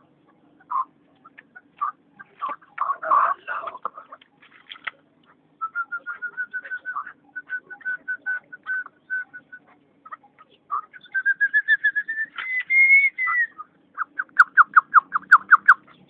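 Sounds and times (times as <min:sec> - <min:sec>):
partridge clucking calls: 0:00.0 - 0:05.4, 0:06.0 - 0:16.0.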